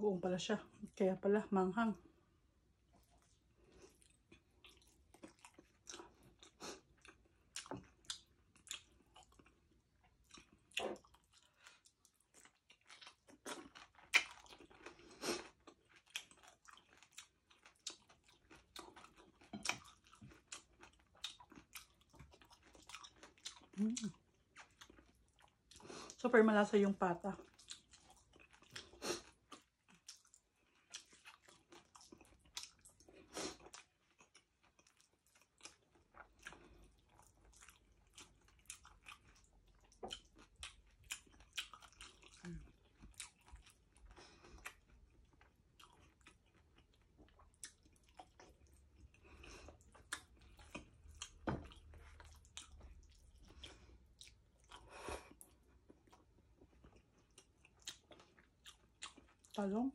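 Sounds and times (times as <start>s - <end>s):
person chewing crunchy food: 2.8s - 26.2s, 27.3s - 59.6s.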